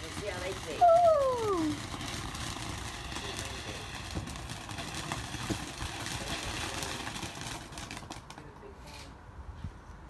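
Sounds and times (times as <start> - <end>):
firework pops and crackles: 0.0 - 9.2
outdoor background hiss: 0.0 - 10.0.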